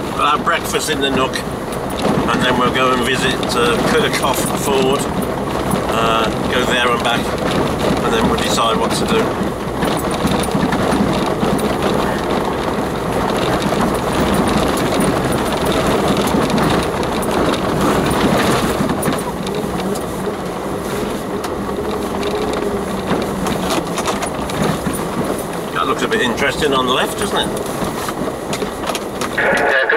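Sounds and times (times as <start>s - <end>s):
vehicle knocks and rattles: 0.0s - 29.4s
engine running: 0.0s - 29.9s
tyre noise: 0.0s - 29.9s.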